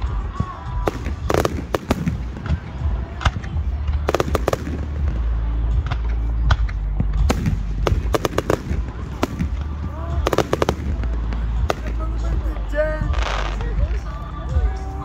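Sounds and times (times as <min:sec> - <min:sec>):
fireworks bangs and crackles: 0:00.0 - 0:14.9
deep rumble: 0:00.0 - 0:15.0.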